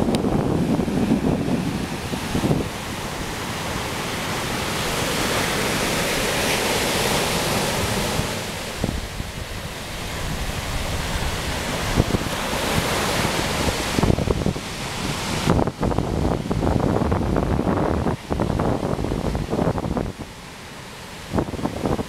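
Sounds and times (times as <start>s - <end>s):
ocean surf breaking on sand: 0.0s - 22.0s
wind rumbling on microphone: 0.0s - 22.0s.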